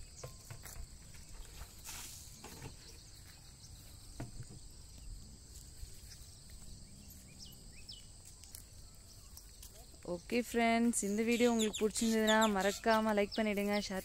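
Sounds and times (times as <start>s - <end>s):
faint insects chirring: 0.0s - 14.0s.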